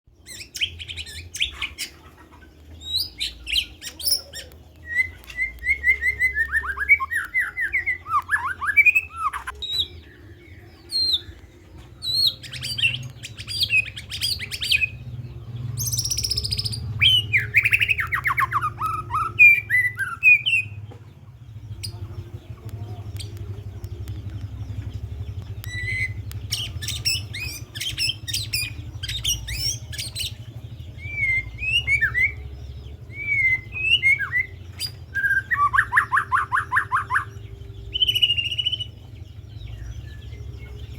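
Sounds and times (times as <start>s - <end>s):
songbird singing trills and whistles: 0.1s - 40.9s.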